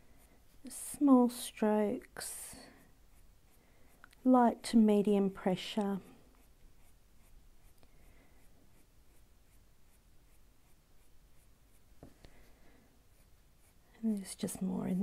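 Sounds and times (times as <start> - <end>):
coloured pencil scratching on paper: 0.0 - 15.0.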